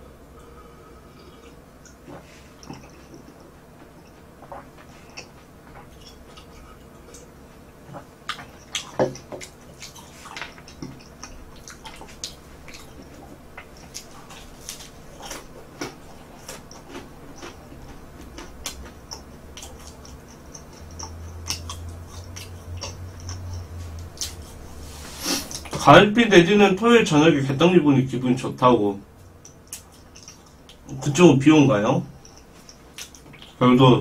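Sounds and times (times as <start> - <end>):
chewing crunchy toasted bread: 1.0 - 25.9, 29.2 - 31.2, 32.1 - 33.6.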